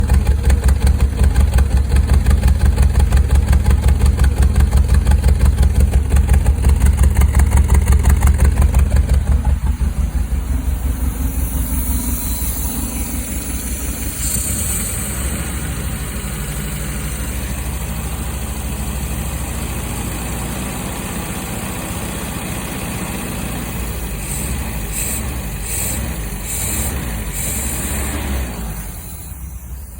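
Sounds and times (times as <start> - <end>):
car engine running: 0.0 - 29.9.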